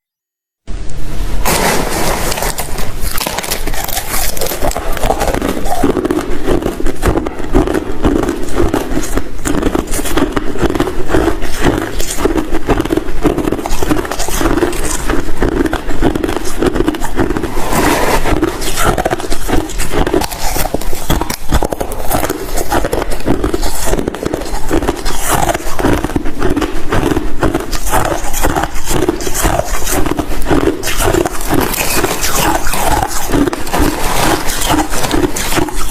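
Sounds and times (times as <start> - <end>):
ice being chewed: 2.0 - 35.9.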